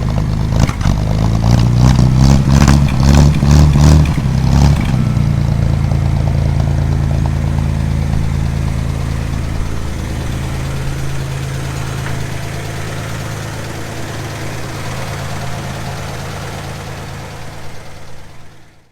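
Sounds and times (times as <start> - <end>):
pickup engine idling: 0.0 - 18.9.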